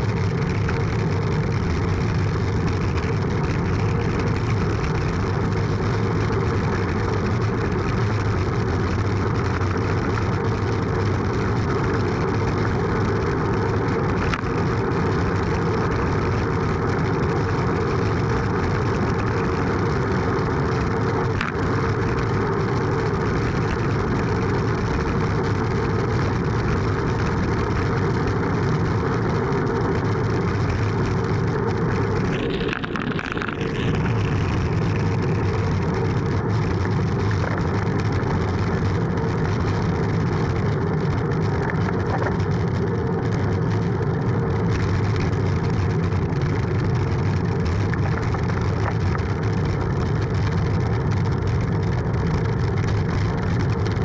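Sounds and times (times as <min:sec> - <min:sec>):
bicycle road rumble: 0:00.0 - 0:54.0.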